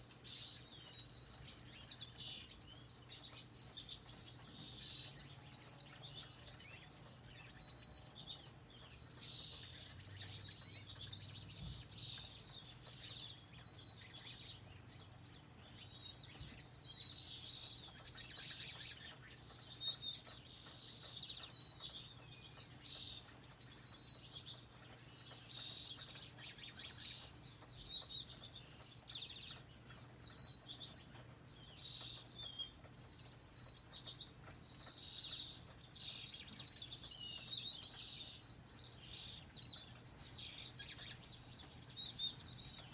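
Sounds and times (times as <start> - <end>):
finches singing: 0.0 - 42.9.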